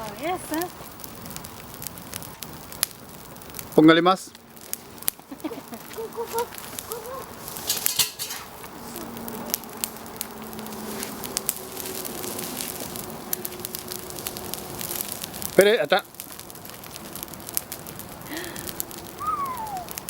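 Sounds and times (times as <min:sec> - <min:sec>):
campfire crackling and popping: 0:00.0 - 0:20.0
soft hiss: 0:00.0 - 0:20.0.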